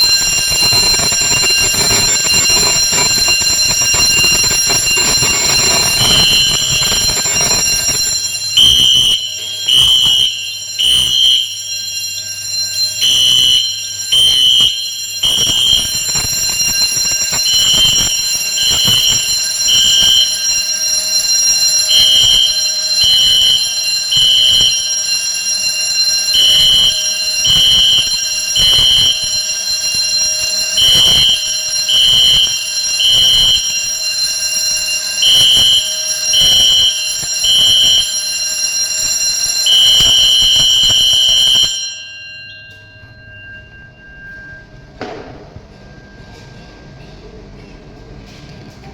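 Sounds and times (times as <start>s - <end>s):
fire alarm sounder pulsing: 0.0s - 47.1s
continuous high-pitched tone: 0.0s - 48.8s.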